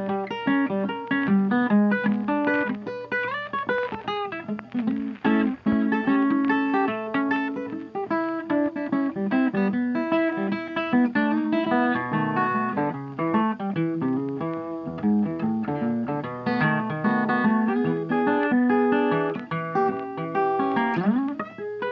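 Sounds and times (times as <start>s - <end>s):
guitar picking plucked notes: 0.0s - 21.9s.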